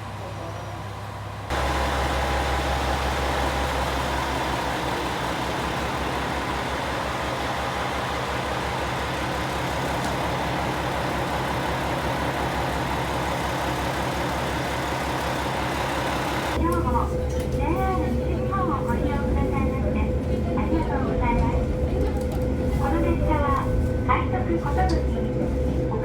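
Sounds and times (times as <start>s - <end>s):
diesel railcar engine droning: 0.0s - 26.0s.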